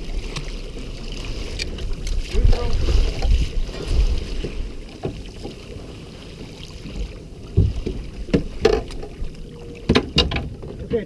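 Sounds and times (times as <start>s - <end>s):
water lapping against boat: 0.0s - 11.0s
wind rumbling on microphone: 0.0s - 11.0s.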